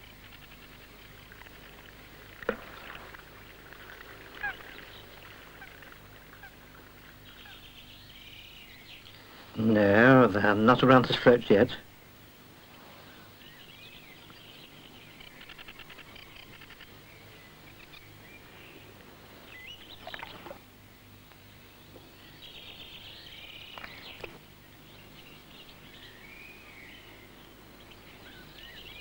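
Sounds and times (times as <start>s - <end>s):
small songbirds chirping: 0.0s - 29.0s
steady low hum: 0.0s - 29.0s.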